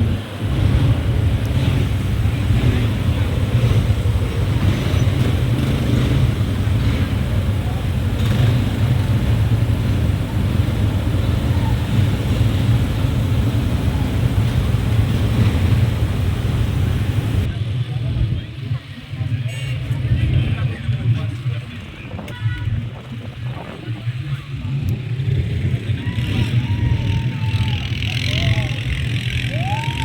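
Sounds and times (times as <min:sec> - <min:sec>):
vehicle engine rumble: 0:00.0 - 0:30.0.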